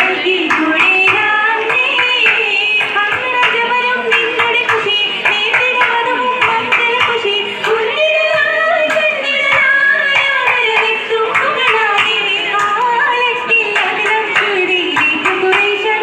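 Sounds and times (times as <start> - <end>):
hand clapping: 0.0 - 13.0, 13.6 - 16.0
girls singing together: 0.0 - 16.0.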